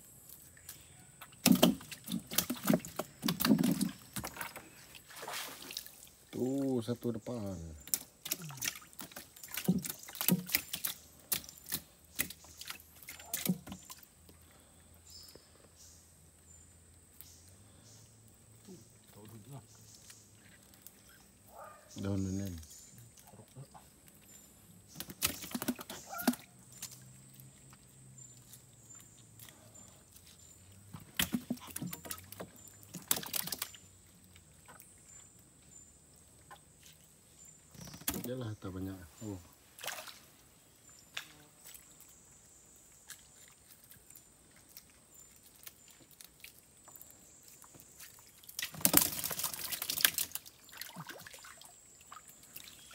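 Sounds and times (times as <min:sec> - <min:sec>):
water splashing and dripping: 0:00.6 - 0:14.7, 0:18.2 - 0:38.9, 0:39.6 - 0:52.9.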